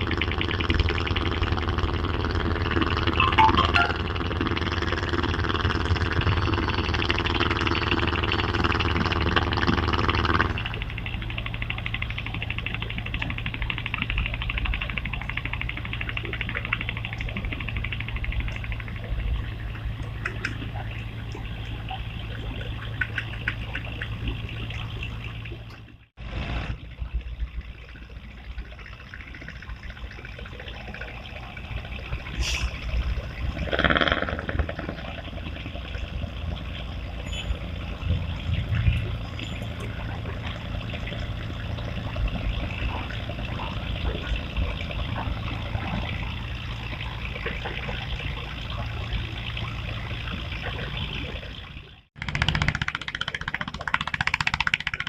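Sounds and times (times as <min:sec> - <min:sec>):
low steady hum: 0:00.0 - 0:52.1.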